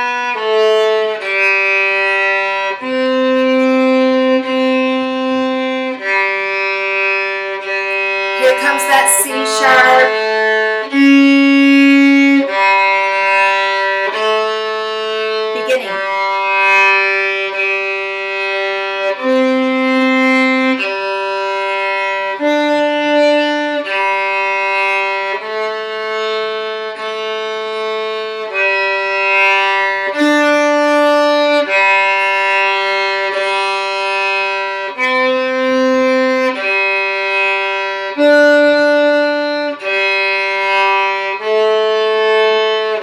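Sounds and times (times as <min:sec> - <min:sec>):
solo violin melody: 0:00.0 - 0:43.0.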